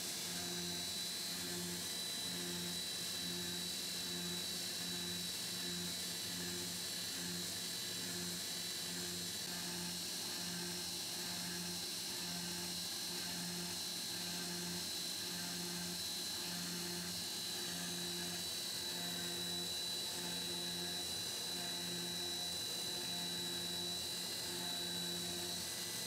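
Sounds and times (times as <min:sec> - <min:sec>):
mill cutting metal whine: 0:00.0 - 0:26.0.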